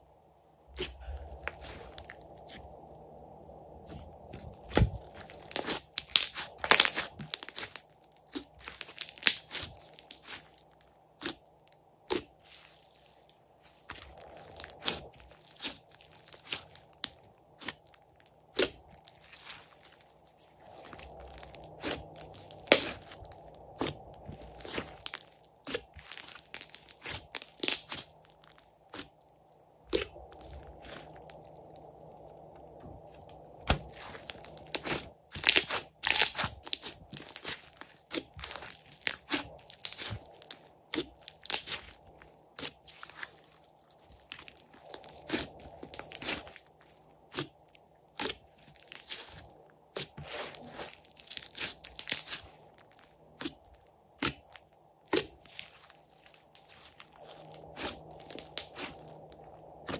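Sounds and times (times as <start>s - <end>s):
slime popping and crackling: 3.9s - 29.1s, 29.9s - 31.8s, 33.3s - 59.9s.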